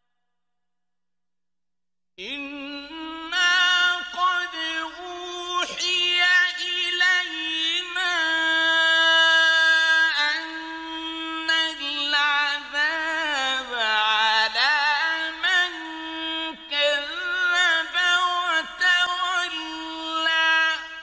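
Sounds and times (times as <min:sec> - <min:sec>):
man reciting melodically: 0:02.2 - 0:21.0.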